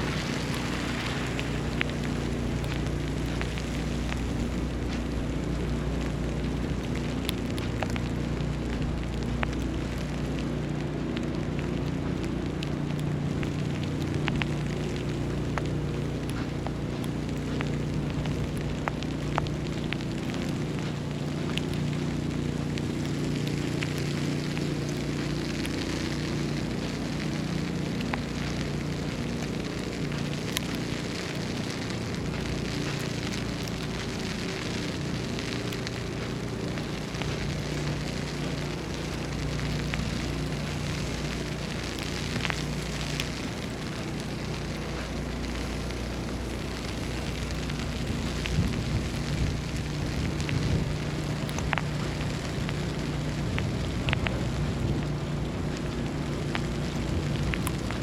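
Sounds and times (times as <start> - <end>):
crackling hiss of snowstorm: 0.0 - 58.0
low mechanical hum: 0.0 - 58.0
small ticks: 0.0 - 58.0.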